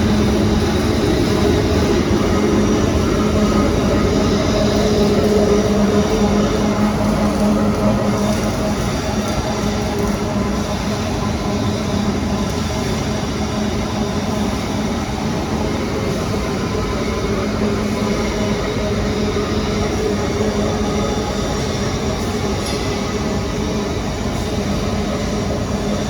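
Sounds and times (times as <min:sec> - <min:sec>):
industrial machinery rumbling: 0:00.0 - 0:26.0.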